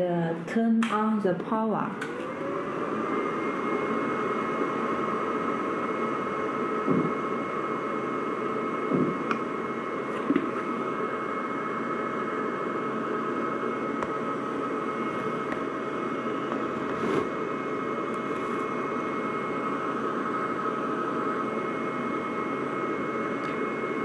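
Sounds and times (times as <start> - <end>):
cooling fan hum and hiss: 0.0 - 24.0.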